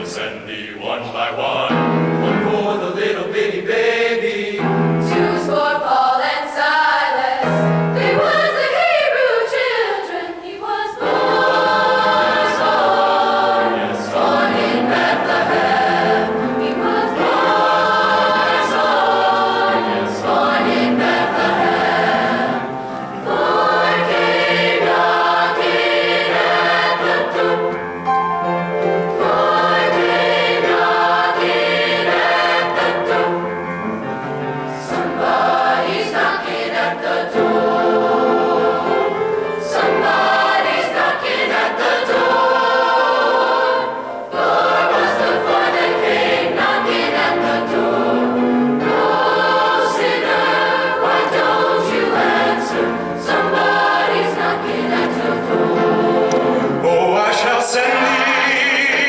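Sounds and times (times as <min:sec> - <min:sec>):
choir singing a gospel song: 0:00.0 - 0:59.0.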